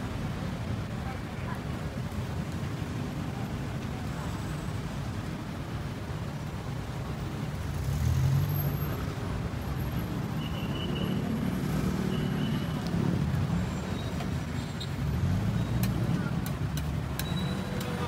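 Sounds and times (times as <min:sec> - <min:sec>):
engine rumble of traffic: 0:00.0 - 0:18.0.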